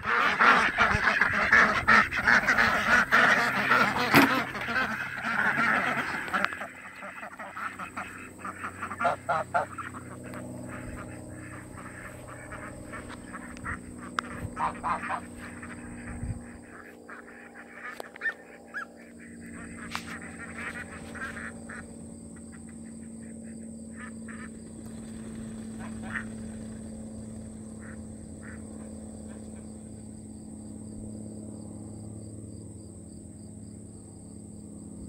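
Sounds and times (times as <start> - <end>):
ducks quacking: 0.0 - 30.0
steady low hum: 0.0 - 35.0.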